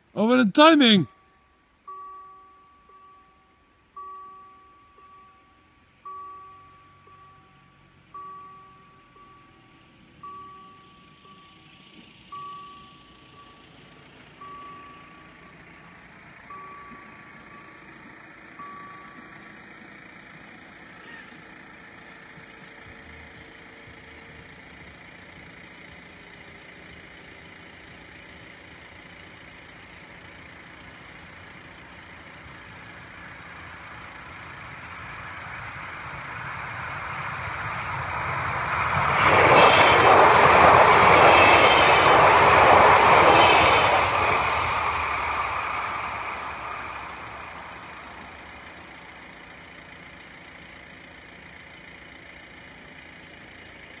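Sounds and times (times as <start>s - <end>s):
diesel train passing: 0.0s - 54.0s.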